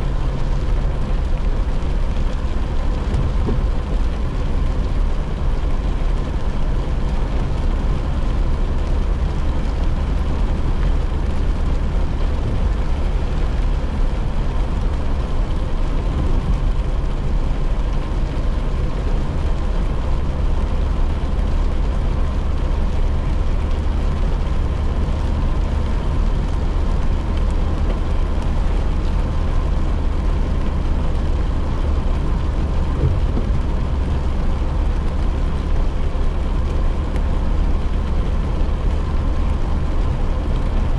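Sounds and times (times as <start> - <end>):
engine and tyres on wet road: 0.0 - 40.9
rain on car body and windows: 0.0 - 40.9.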